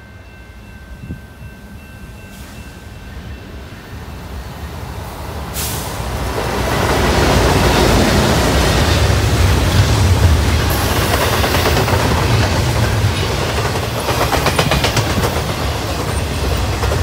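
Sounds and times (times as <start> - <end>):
diesel locomotive engine rumble: 0.0 - 17.0
train wheel noise: 0.0 - 17.0.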